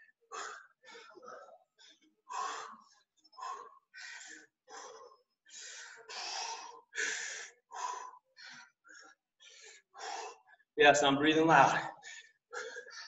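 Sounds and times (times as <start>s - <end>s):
person breathing hard: 0.3s - 10.7s, 11.8s - 13.0s.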